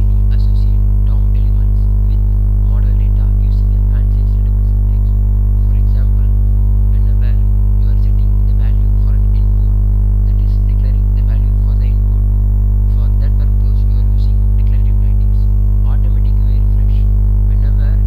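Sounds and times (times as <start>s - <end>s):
mains hum: 0.0s - 18.0s.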